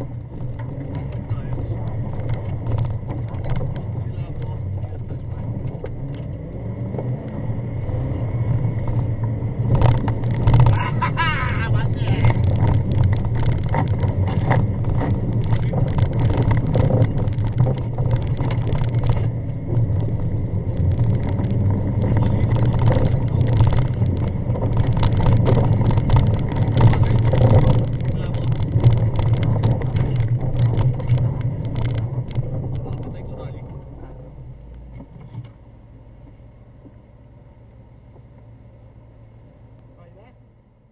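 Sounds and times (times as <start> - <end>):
body and interior rattles: 0.0 - 35.6
engine droning under load: 0.0 - 40.9.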